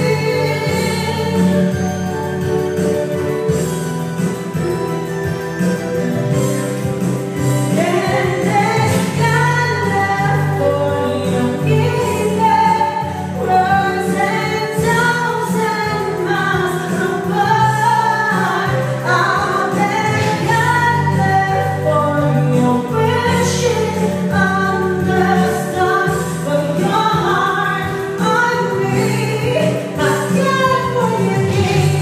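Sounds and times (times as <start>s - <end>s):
women singing pop song: 0.0s - 3.6s, 7.4s - 32.0s
electronic keyboard: 0.0s - 32.0s.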